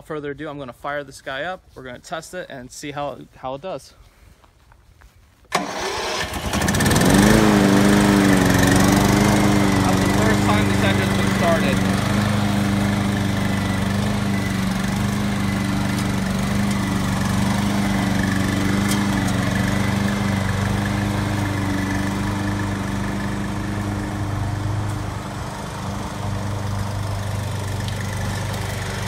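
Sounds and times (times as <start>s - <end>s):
mower engine hum: 5.5s - 29.0s.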